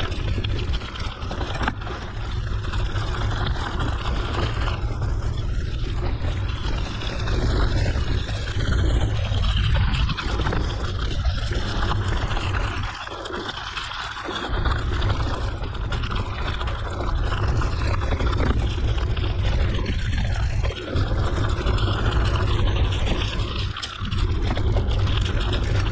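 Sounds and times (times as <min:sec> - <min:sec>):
bike tyres rolling on gravel: 0:00.0 - 0:25.9
wind rumble on microphone: 0:00.0 - 0:25.9.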